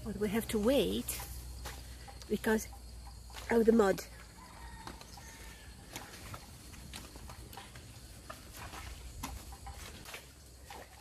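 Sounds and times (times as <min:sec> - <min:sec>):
elephant footsteps in mud: 0:00.4 - 0:11.0.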